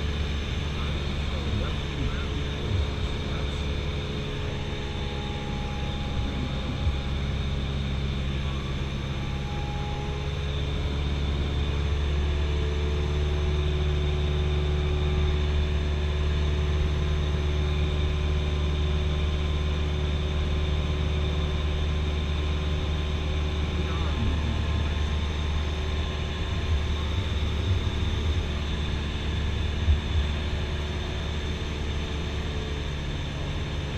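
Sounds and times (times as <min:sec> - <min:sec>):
airplane engine and propeller drone: 0:00.0 - 0:33.9.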